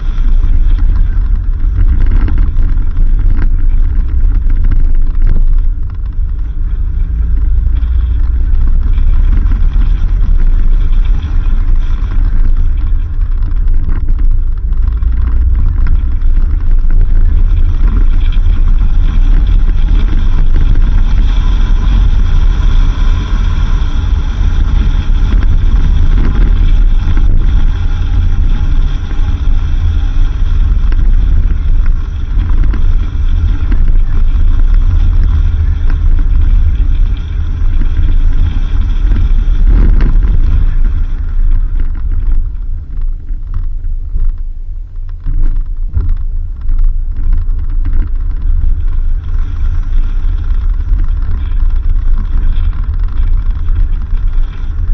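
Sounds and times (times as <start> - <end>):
vehicle rumbling on dirt road: 0.0 - 54.9.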